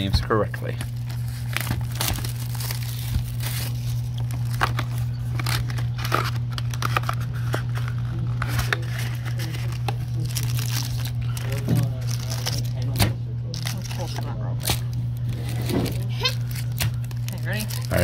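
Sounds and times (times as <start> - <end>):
cardboard and foil packs rustling: 0.0 - 18.0
steady low hum: 0.0 - 18.0
plastic wrap crinkling and tearing: 0.6 - 18.0.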